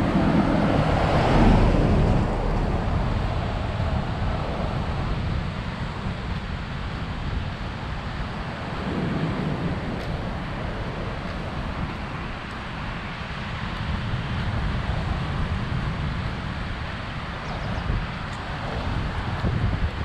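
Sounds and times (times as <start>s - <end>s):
street noise: 0.0s - 20.0s
wind buffeting microphone: 0.0s - 20.0s.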